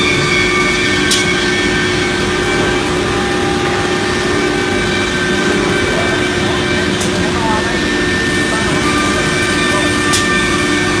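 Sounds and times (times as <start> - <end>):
router spindle whine: 0.0 - 11.0
rushing machine noise: 0.0 - 11.0.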